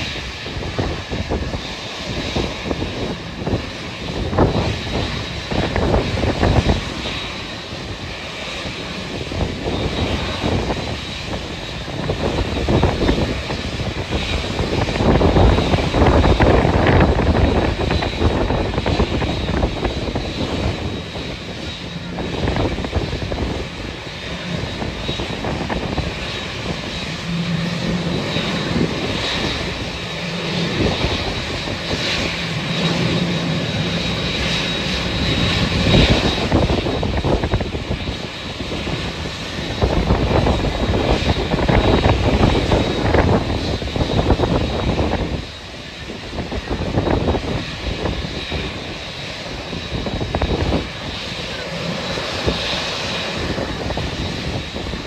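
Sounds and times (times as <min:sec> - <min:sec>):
airliner engines whining: 0:00.0 - 0:55.0
wind buffeting microphone: 0:00.0 - 0:55.0.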